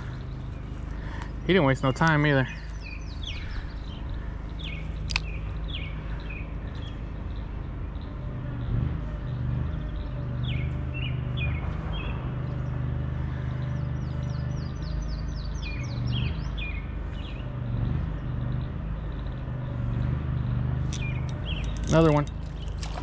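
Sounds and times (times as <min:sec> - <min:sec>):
low motor hum: 0:00.0 - 0:23.0
songbirds singing: 0:00.0 - 0:23.0.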